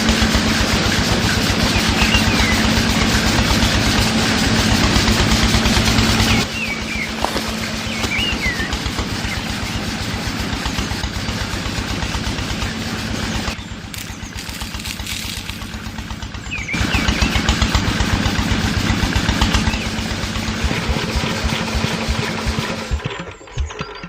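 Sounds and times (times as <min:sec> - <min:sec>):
engine putt-putt running: 0:00.0 - 0:24.0.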